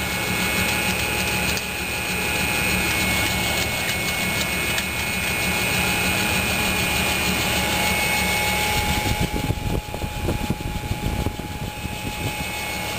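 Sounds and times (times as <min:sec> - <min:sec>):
high whine: 0:00.0 - 0:12.9
machinery humming: 0:00.0 - 0:12.9.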